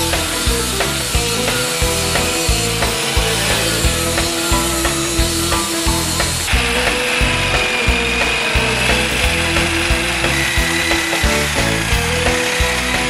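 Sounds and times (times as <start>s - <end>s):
reciprocating saw cutting steel: 0.0s - 13.0s.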